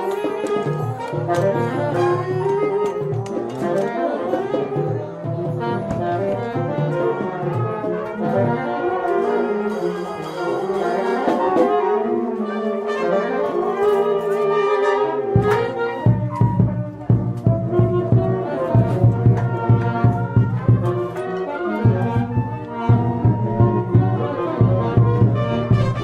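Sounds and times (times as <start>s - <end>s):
brass film music: 0.0s - 26.0s
trombone: 0.0s - 26.0s.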